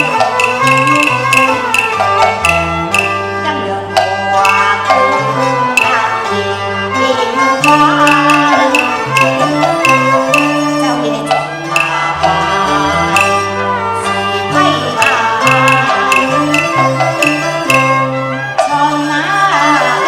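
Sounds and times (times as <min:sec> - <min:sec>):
sharp percussion strokes: 0:00.0 - 0:19.5
bowed string melody: 0:00.0 - 0:20.0.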